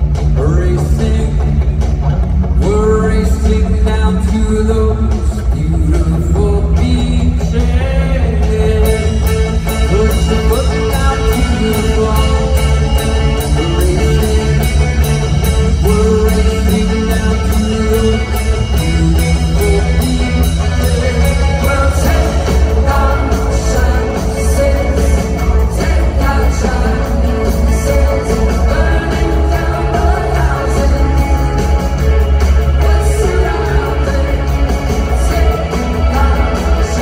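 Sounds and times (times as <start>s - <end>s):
heavy boomy bass: 0.0s - 37.0s
live rock band playing: 0.0s - 37.0s
person singing lead vocal: 0.0s - 37.0s.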